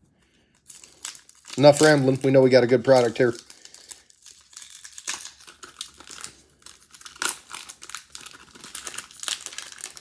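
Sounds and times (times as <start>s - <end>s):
card pack wrapper crinkling and tearing: 0.5s - 10.0s.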